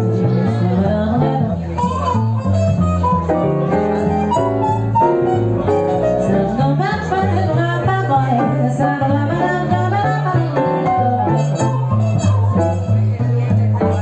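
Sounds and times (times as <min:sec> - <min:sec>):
jazz melody line: 0:00.0 - 0:14.0
piano chords: 0:00.0 - 0:14.0
walking bass line: 0:00.0 - 0:14.0.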